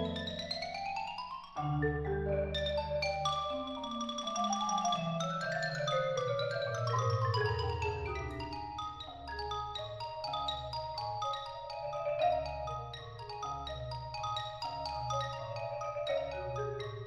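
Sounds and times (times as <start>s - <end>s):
marimba ensemble: 0.0s - 17.0s
xylophone melody: 0.0s - 17.0s.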